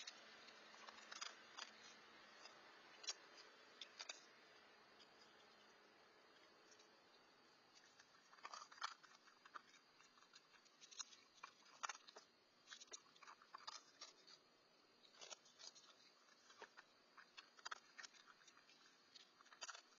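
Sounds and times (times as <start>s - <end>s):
animal crunching food: 0.0s - 19.9s.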